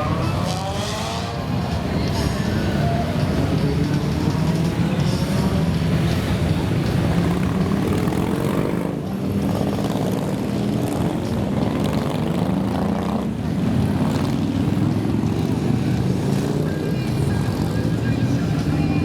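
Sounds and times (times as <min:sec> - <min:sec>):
motorcycles passing by: 0:00.0 - 0:19.0.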